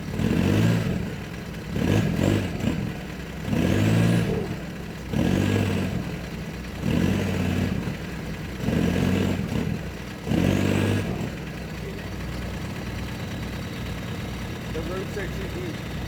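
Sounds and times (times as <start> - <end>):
truck engine revving and idling: 0.0 - 16.0.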